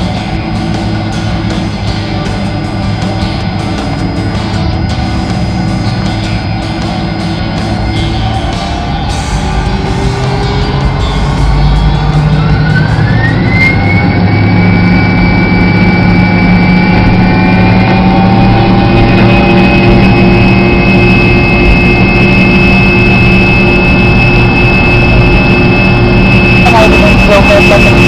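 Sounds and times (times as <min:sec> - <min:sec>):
jet engine whine: 0:00.0 - 0:28.0
low engine rumble: 0:00.0 - 0:28.0.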